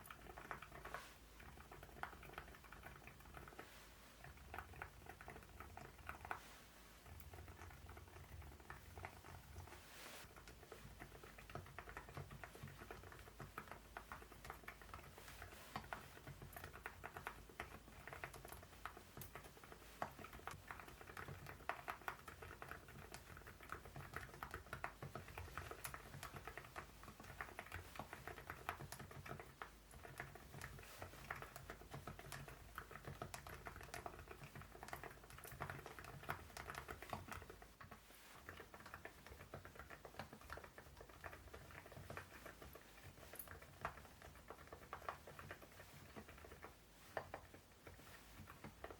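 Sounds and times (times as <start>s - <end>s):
soft keyboard typing: 0.0s - 48.9s.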